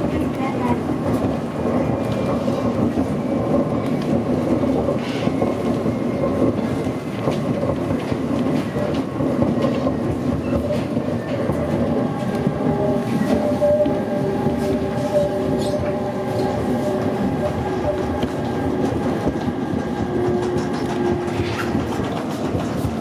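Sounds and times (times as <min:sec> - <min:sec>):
electric train rumble: 0:00.0 - 0:23.0.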